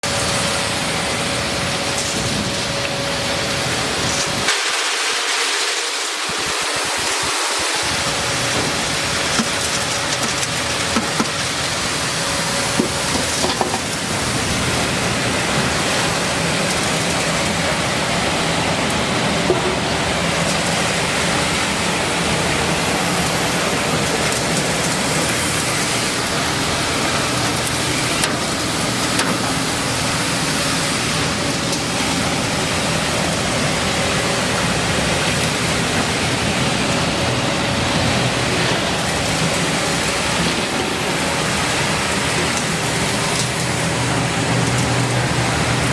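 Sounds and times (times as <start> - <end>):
milling machine rushing noise: 0.0 - 45.9.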